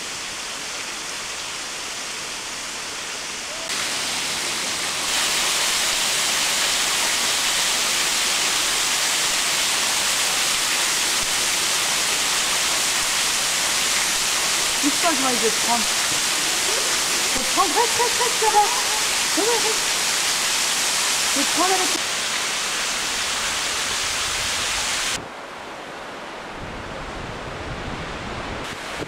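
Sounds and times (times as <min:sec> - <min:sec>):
waterfall splashing into pool: 0:00.0 - 0:25.2.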